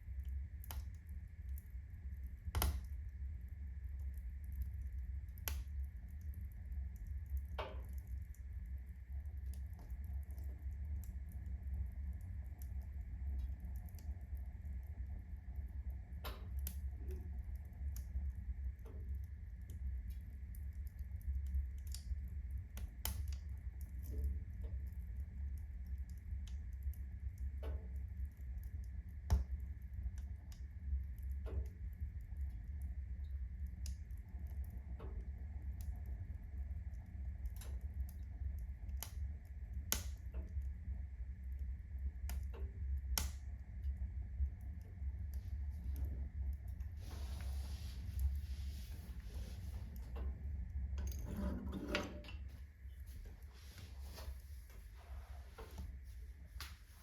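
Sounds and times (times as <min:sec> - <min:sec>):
log fire crackling and popping: 0:00.0 - 0:57.0
low rumble of flames: 0:00.0 - 0:57.0.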